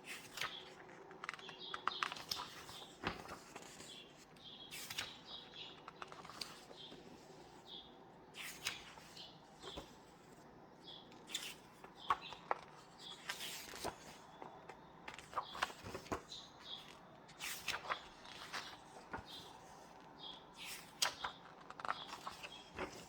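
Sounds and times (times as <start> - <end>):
book pages being turned: 0.0 - 7.7, 8.3 - 23.0.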